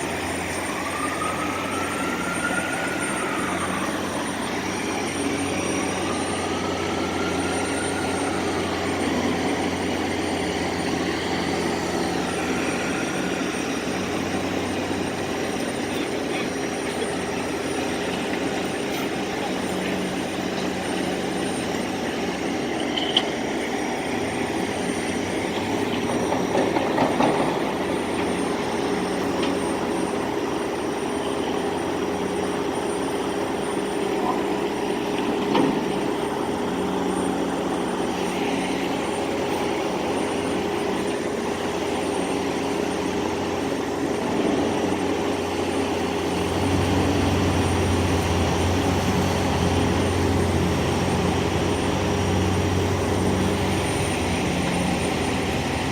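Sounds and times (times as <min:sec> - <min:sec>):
deeper drone: 0:00.0 - 0:55.9
machinery engine running: 0:00.0 - 0:55.9.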